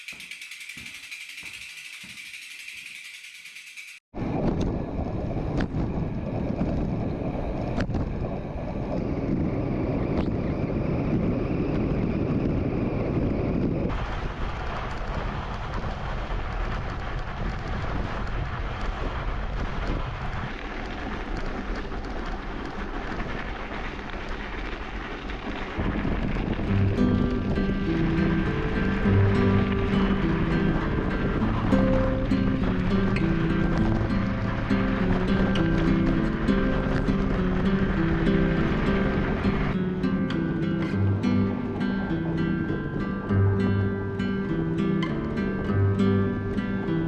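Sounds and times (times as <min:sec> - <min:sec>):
wind buffeting microphone: 0:04.1 - 0:47.0.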